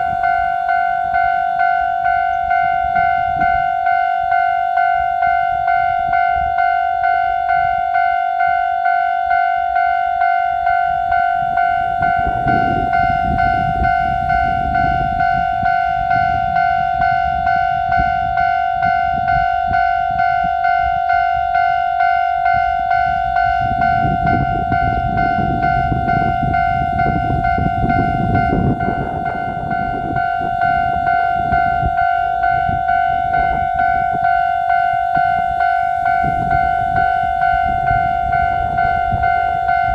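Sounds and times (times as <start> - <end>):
electric train rumbling past: 0.0 - 39.9
level crossing warning bell ringing: 0.0 - 39.9.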